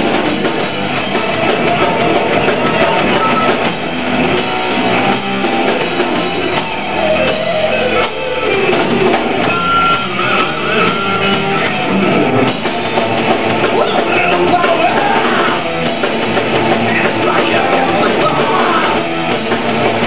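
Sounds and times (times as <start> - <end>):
electric guitar: 0.0 - 20.0
metal band playing live: 0.0 - 20.0.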